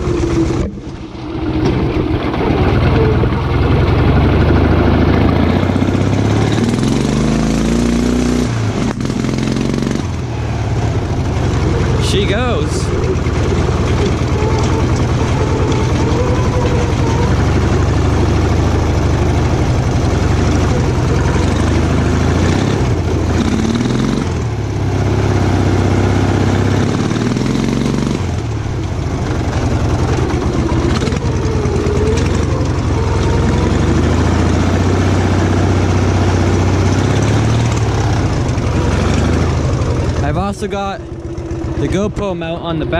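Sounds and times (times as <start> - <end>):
lawn tractor engine revving: 0.0 - 42.9.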